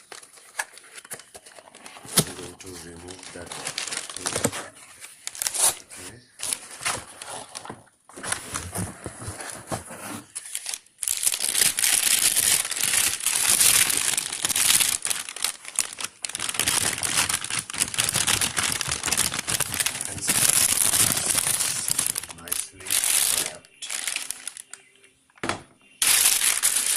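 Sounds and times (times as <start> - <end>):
packaging wrap crinkling and tearing: 0.0 - 8.9, 10.2 - 24.9, 26.0 - 26.9.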